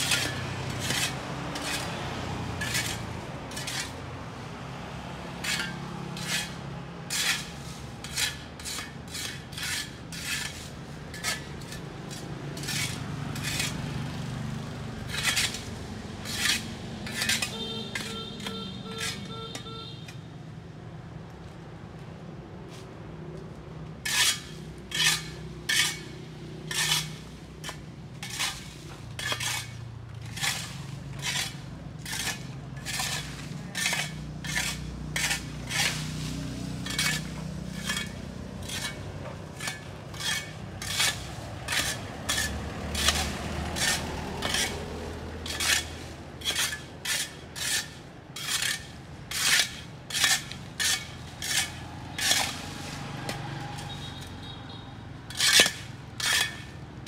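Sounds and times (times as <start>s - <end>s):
hand tool scraping pavement: 0.0s - 20.2s, 22.6s - 57.0s.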